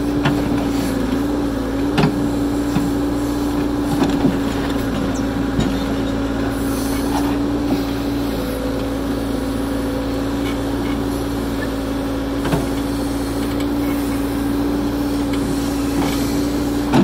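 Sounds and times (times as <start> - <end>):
excavator engine drone: 0.0 - 17.0.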